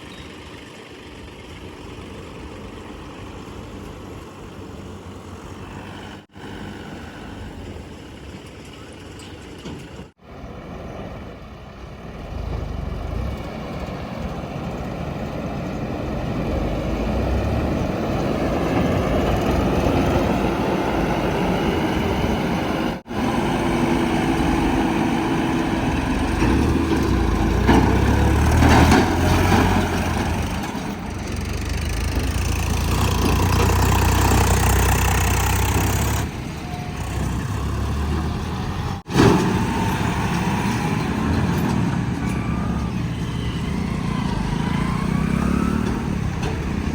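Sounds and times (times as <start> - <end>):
heavy diesel engines revving: 0.0 - 46.9.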